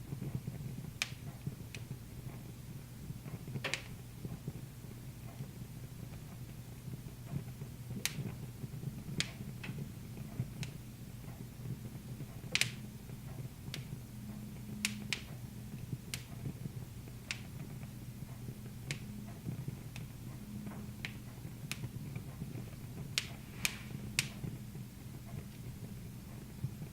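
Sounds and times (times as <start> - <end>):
low steady hum: 0.0 - 26.9
wood fire crackling: 0.0 - 26.9.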